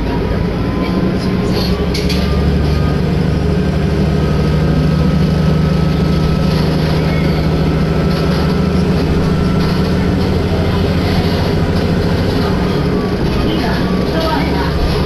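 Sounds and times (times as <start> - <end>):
railcar engine drone: 0.0 - 15.0.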